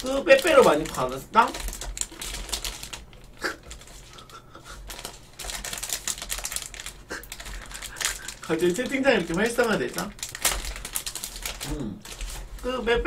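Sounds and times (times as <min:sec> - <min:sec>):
plastic wrapper crinkling and tearing: 0:00.0 - 0:13.0.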